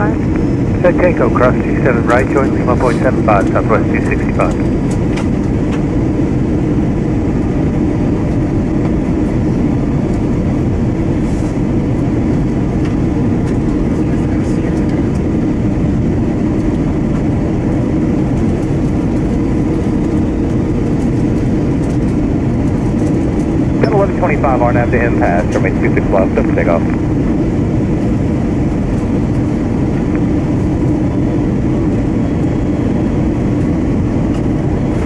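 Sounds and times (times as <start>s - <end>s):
airliner cabin engine drone: 0.0s - 35.0s.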